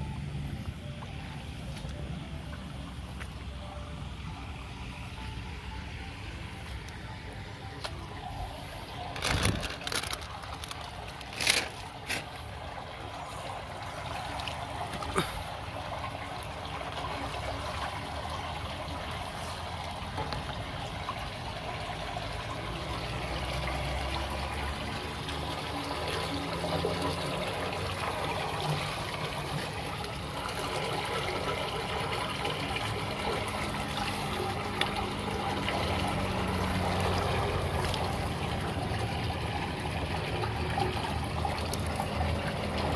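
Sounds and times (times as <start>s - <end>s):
water draining through culvert: 0.0s - 42.9s.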